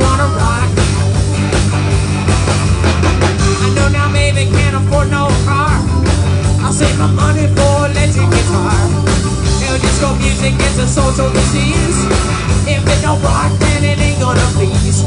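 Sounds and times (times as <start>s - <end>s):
bending guitar lead line: 0.0s - 15.0s
live rock band playing: 0.0s - 15.0s.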